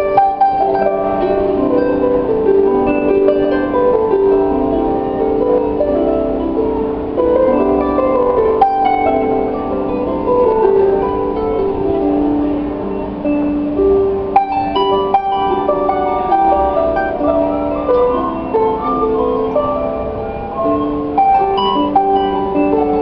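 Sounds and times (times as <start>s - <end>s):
harp melody: 0.0s - 23.0s.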